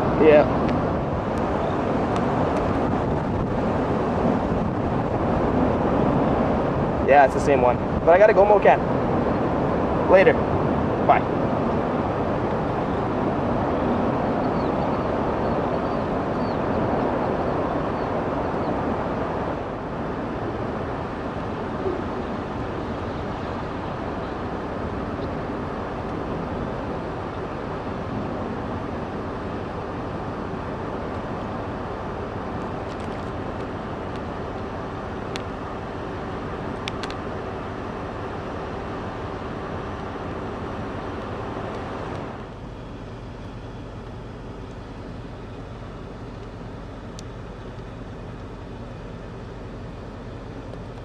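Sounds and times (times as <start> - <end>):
wind rushing on microphone: 0.0 - 42.7.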